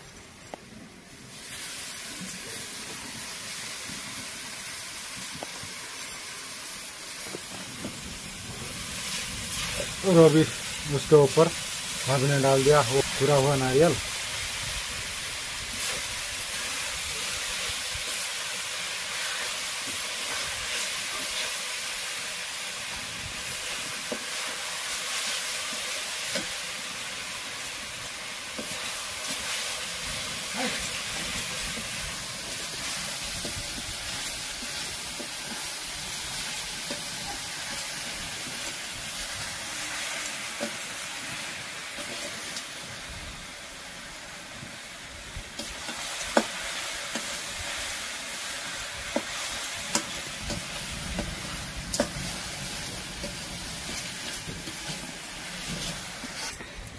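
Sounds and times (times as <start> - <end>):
coconut sizzling in sugar: 1.0 - 56.9.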